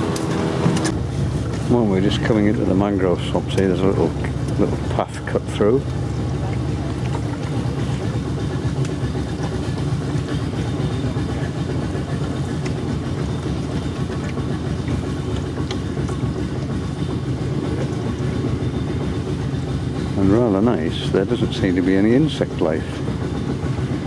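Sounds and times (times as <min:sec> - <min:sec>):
motorboat engine droning: 0:00.0 - 0:24.0.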